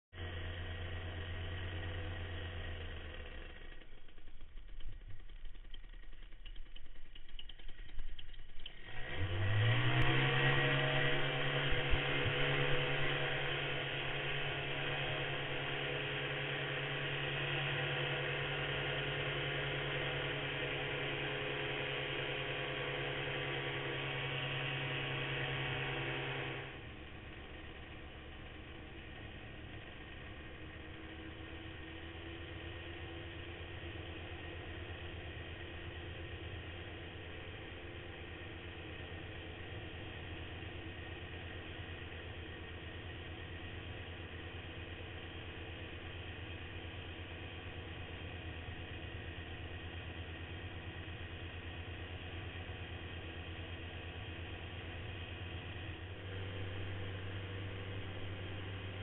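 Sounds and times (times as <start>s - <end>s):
paramotor engine running: 0.2s - 59.0s.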